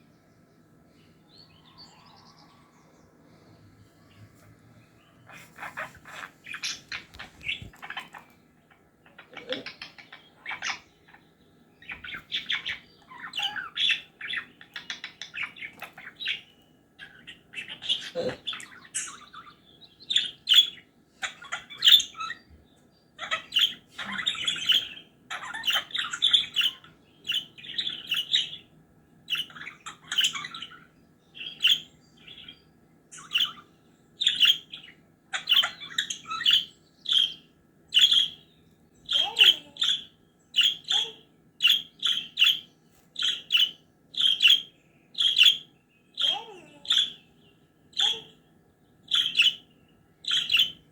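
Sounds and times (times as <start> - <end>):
parrot chattering and squawking: 5.2 - 22.4, 23.2 - 28.6, 29.3 - 32.4, 33.2 - 38.4, 39.1 - 47.2, 47.9 - 48.4, 49.1 - 49.6, 50.2 - 50.9.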